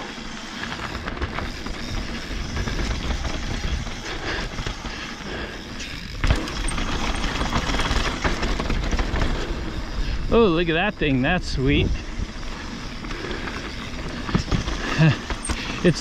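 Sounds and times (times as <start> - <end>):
bike tyres on dirt: 0.0 - 16.0.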